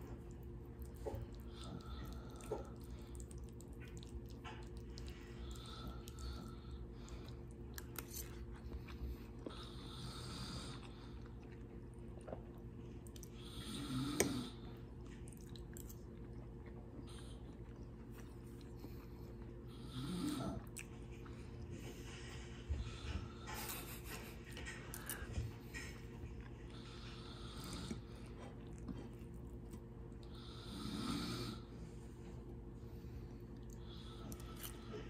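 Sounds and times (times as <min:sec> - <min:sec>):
close-up chewing: 0:00.0 - 0:30.4, 0:32.2 - 0:35.0
steady low hum: 0:00.0 - 0:35.0.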